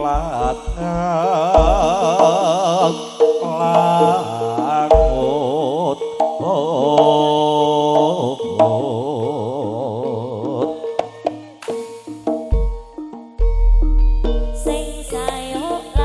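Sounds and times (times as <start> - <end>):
gamelan ensemble melody: 0.0 - 16.0.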